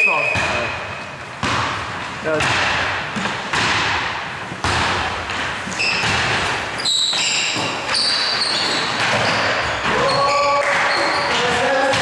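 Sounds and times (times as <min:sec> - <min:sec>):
basketball bouncing on gym floor: 0:00.0 - 0:12.0
sneakers squeaking: 0:00.0 - 0:12.0.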